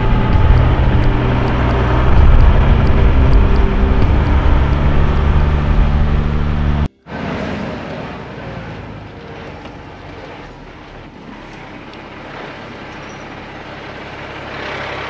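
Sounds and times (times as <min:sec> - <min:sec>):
diesel truck engine hum: 0:00.0 - 0:15.0.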